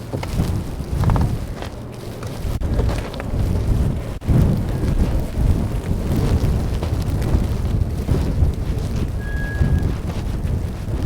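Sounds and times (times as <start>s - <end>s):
strong gusting wind: 0.0s - 11.0s.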